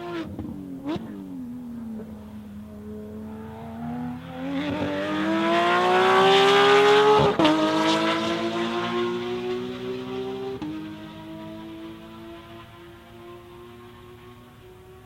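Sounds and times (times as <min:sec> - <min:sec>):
sports car accelerating: 0:00.0 - 0:15.0.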